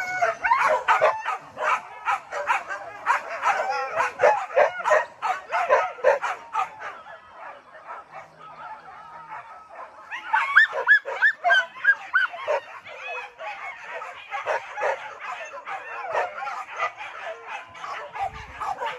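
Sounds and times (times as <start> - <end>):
dogs yelping and baying: 0.0 - 18.9.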